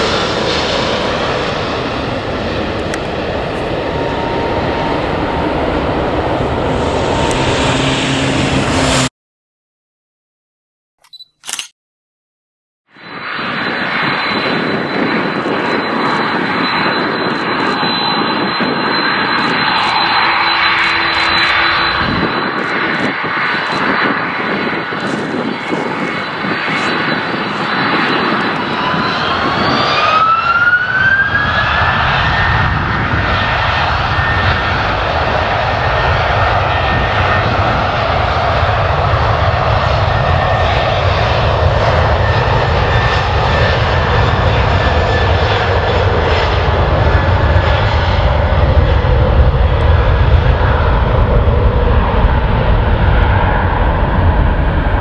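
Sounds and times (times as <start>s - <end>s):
jet engines spooling up: 0.0s - 9.1s, 13.0s - 55.0s.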